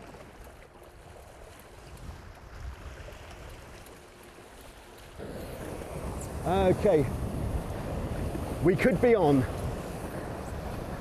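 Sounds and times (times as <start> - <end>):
rushing water: 0.0 - 11.0
wind: 0.0 - 11.0.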